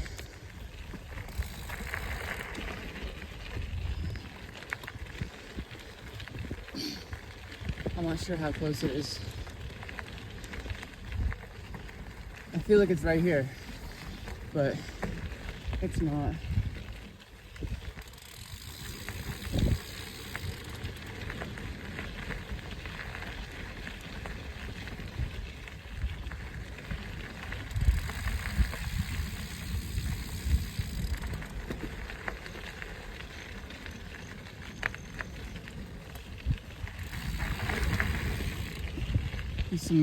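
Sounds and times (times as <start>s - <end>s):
bike tyres on dirt trail: 0.0s - 40.0s.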